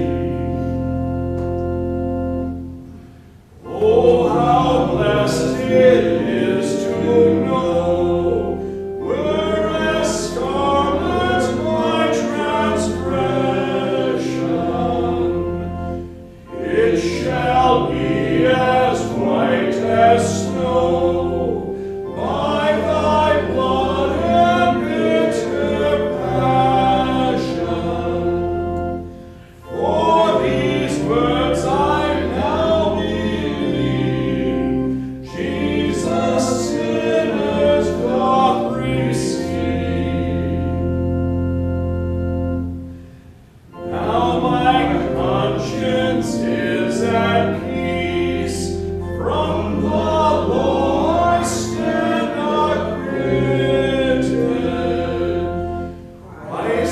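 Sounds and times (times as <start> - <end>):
church organ: 0.0 - 56.9
voices singing a hymn: 0.0 - 56.9.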